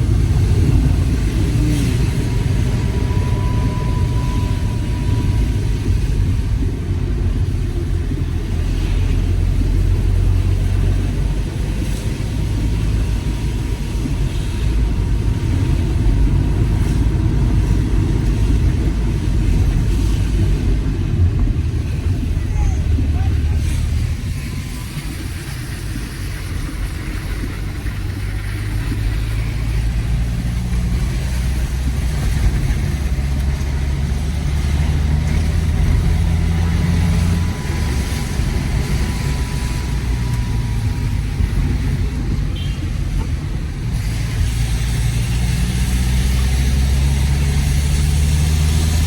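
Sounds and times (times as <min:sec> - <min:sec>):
road noise: 0:00.0 - 0:49.0
vehicle engine running: 0:00.0 - 0:49.0.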